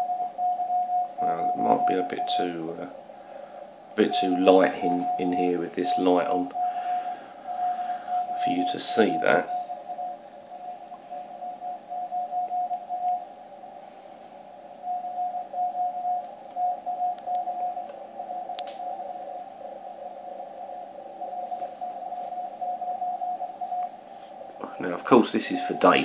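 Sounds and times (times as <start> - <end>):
morse code tone: 0.0 - 2.9, 4.0 - 13.4, 14.8 - 24.0, 24.7 - 26.0
faint radio hiss: 0.0 - 26.0.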